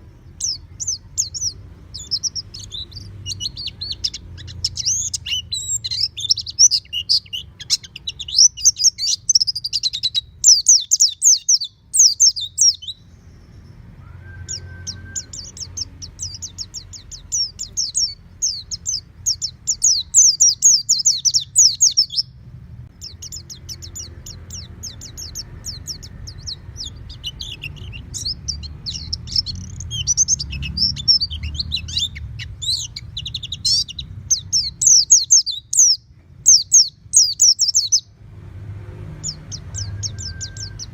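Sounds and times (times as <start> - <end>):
bird twittering chirps: 0.0 - 38.2, 39.1 - 40.9.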